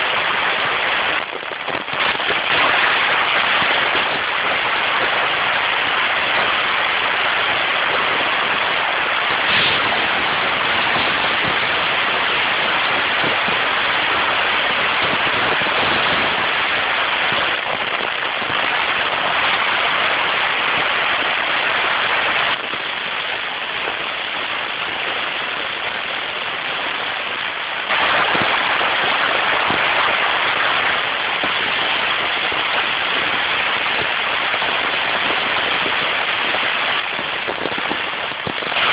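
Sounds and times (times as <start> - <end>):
rushing wind and road noise: 0.0 - 38.9.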